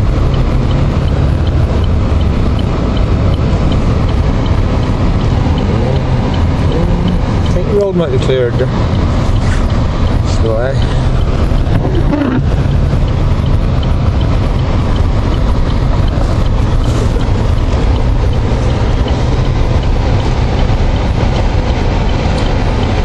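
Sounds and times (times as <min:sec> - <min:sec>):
tyre noise on snowy road: 0:00.0 - 0:23.0
vehicle engine rumble: 0:00.0 - 0:23.0.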